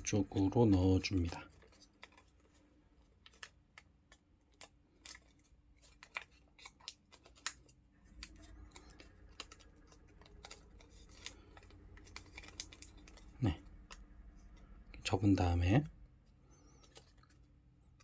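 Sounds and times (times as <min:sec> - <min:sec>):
paper crinkling and clicking: 0:00.0 - 0:18.0.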